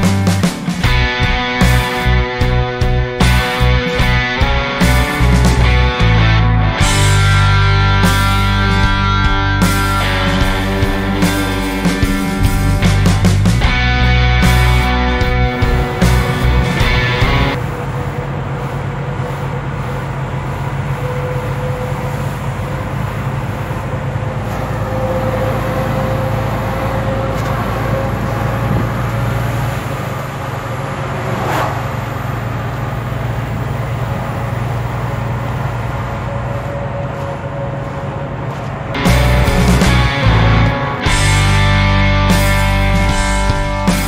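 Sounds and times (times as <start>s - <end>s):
lorry engine and road drone: 0.0s - 44.0s.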